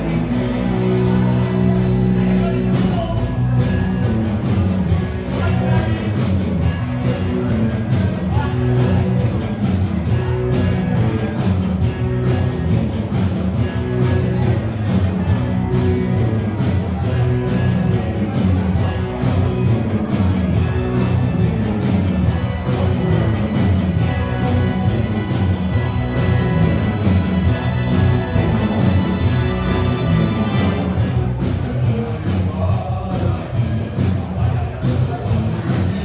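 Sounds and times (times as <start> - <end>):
bass guitar: 0.0 - 36.0
electric guitar: 0.0 - 36.0
steady drum beat: 0.0 - 36.0.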